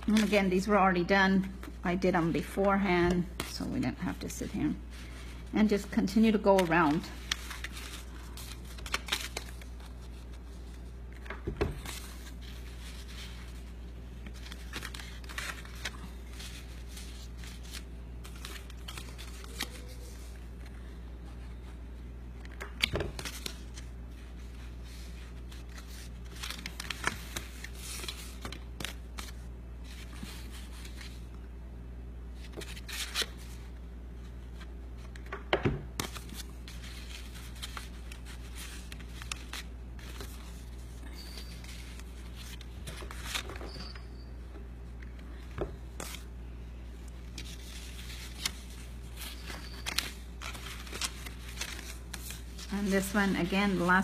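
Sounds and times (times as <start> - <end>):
paper rustling: 0.0 - 0.8, 2.4 - 21.8, 22.4 - 31.3, 36.0 - 44.0, 47.1 - 54.0.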